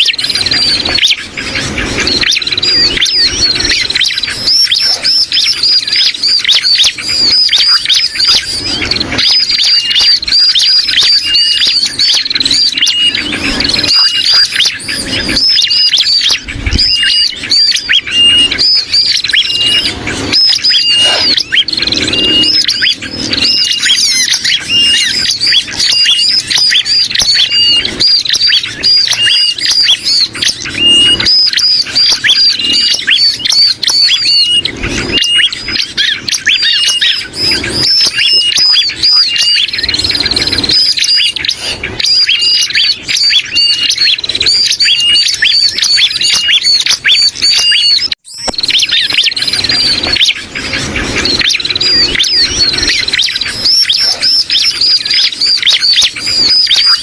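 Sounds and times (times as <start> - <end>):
bulbul distress calls: 0.0 - 57.0
prinias chirping rapidly: 0.0 - 57.0.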